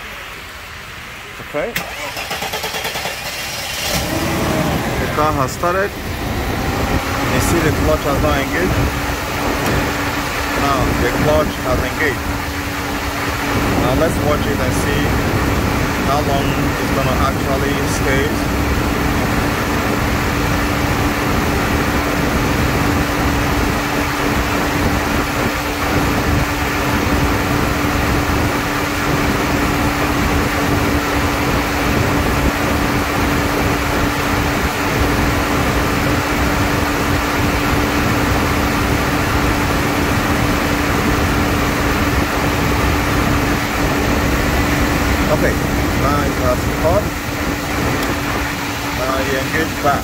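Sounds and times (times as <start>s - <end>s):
car engine idling: 0.0s - 50.0s
compressor hum: 0.0s - 50.0s.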